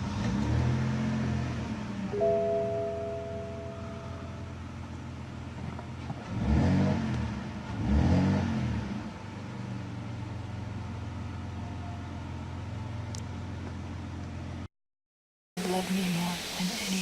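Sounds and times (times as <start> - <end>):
car engine idling and revving: 0.0 - 14.7.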